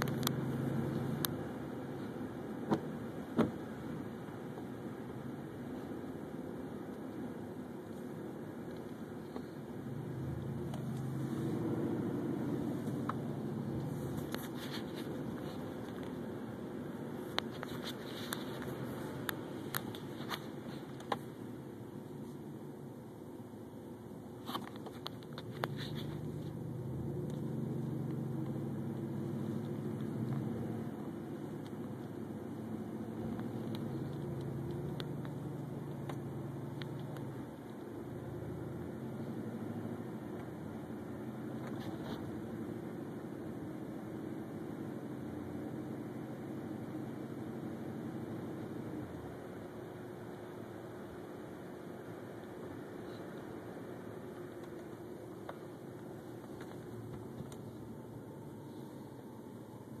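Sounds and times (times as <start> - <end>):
car engine and tyre hum: 0.0 - 60.0.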